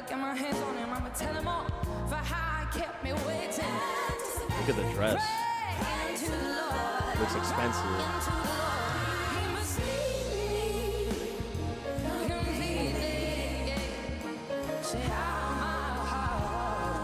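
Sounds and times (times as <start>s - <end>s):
drums: 0.0s - 17.0s
woman singing: 0.0s - 17.0s
bass line: 1.0s - 3.4s, 4.4s - 17.0s.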